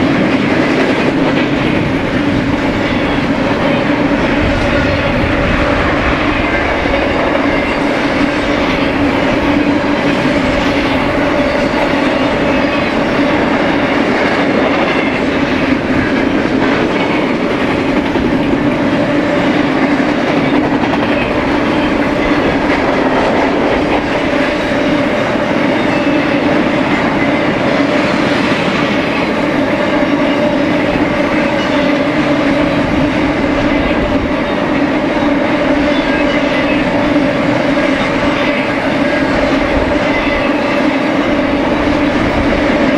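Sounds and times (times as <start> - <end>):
freight train wheels clattering: 0.0 - 42.9.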